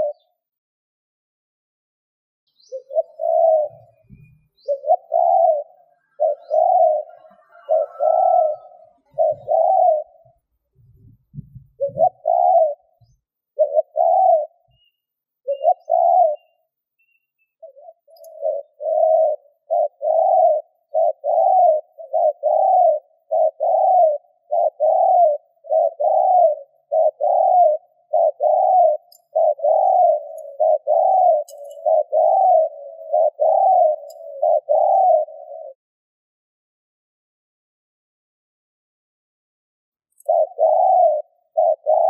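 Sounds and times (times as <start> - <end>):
dove cooing: 0.0 - 0.4, 2.6 - 16.7, 17.6 - 35.8, 40.1 - 42.0.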